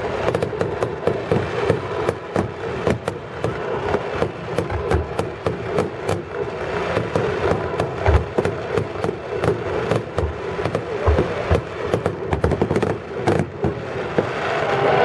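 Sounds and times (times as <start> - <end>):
deep firework boom: 0.0 - 14.7
fireworks crackling: 0.0 - 15.0
steady rumbling: 0.0 - 15.0.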